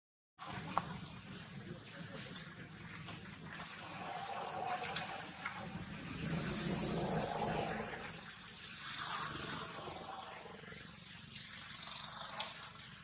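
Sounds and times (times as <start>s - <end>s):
outdoor background hiss: 0.4s - 13.0s.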